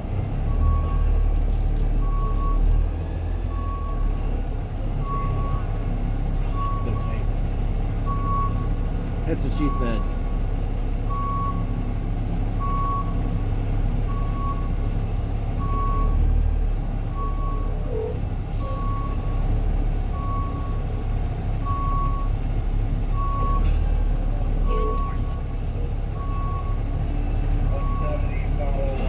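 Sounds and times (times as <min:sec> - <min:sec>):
diesel engine running: 0:00.0 - 0:29.0
truck reverse alarm beeping: 0:00.3 - 0:07.4, 0:08.0 - 0:29.0.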